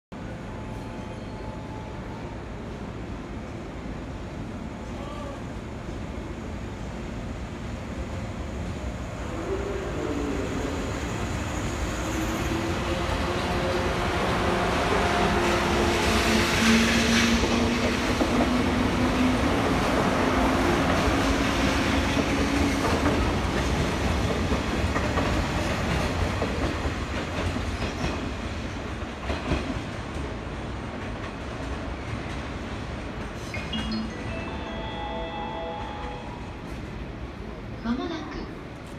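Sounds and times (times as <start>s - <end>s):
low train hum: 0.1s - 38.9s
train rumble: 2.4s - 38.9s.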